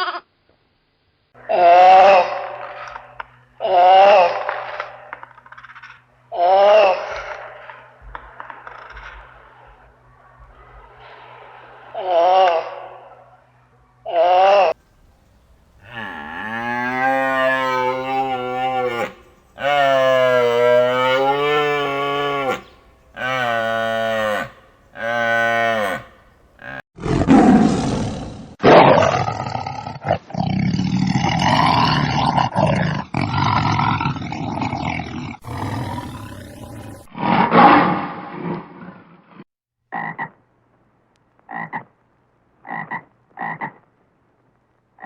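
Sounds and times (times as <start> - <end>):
low drawn-out animal calls: 1.4 - 38.0
harsh rough animal calls: 1.4 - 39.0.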